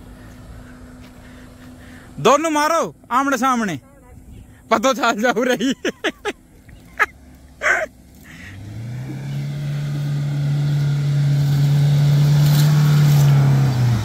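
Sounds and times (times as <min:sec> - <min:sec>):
suv engine revving: 0:00.0 - 0:03.4, 0:04.9 - 0:14.0.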